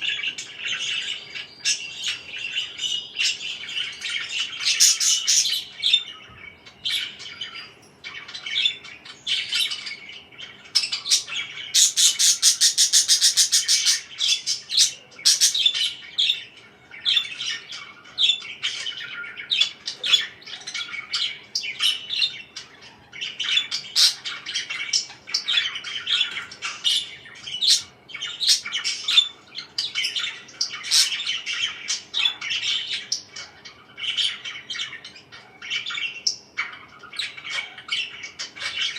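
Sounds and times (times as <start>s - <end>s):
parakeets chirping: 0.0s - 38.9s
rapid repeated bird notes: 0.0s - 38.9s.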